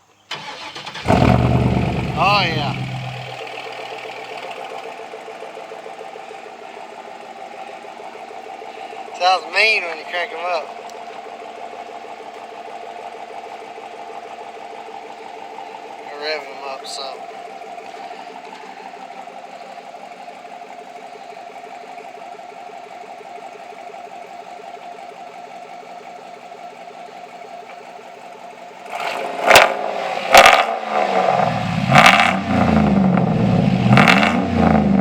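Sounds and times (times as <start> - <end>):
pickup engine idling and revving: 0.3 - 35.0.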